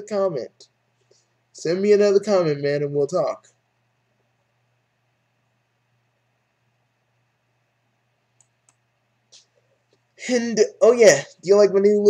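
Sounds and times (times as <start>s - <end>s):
faint low hum and hiss: 0.0s - 12.0s.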